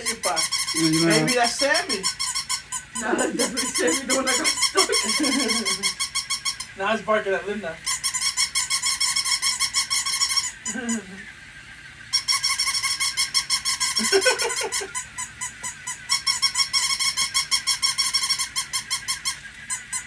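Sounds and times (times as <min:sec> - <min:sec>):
toy puppies yapping electronically: 0:00.0 - 0:06.9, 0:07.8 - 0:11.1, 0:12.0 - 0:20.0.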